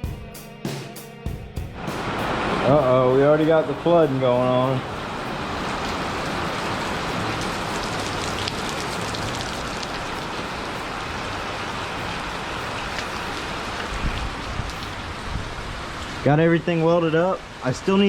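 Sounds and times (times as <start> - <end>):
heavy rain pouring: 1.8 - 18.0.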